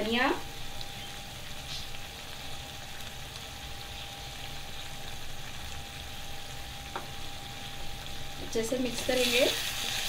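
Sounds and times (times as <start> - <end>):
faint steady hum: 0.0 - 10.0
gravy bubbling in a pan: 0.0 - 10.0.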